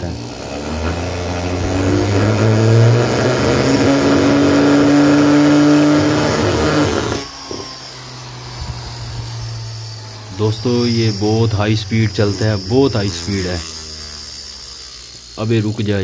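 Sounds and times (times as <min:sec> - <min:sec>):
electric motor humming and whining: 0:00.0 - 0:16.0.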